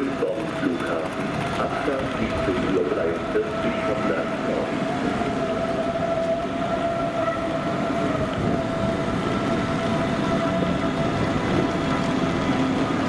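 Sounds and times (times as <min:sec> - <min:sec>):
electric train whine: 0:00.0 - 0:13.0.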